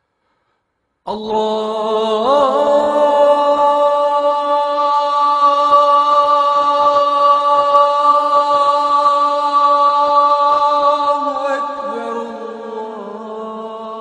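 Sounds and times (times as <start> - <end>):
man chanting call to prayer: 1.1 - 14.0.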